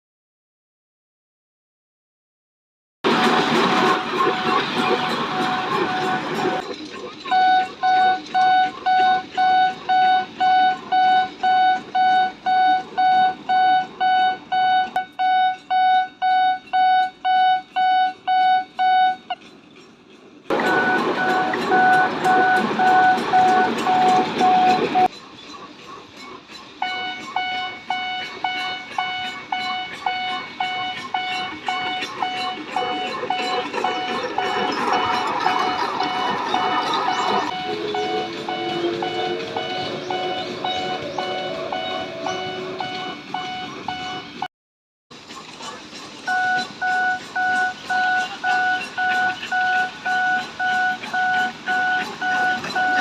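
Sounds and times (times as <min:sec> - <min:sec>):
railroad crossing bell ringing: 0:03.1 - 0:19.5, 0:20.5 - 0:44.5, 0:45.6 - 0:53.0.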